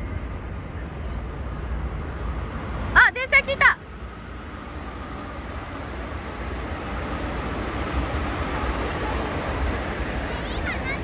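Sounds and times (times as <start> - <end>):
electric train rumbling past: 0.0 - 11.0.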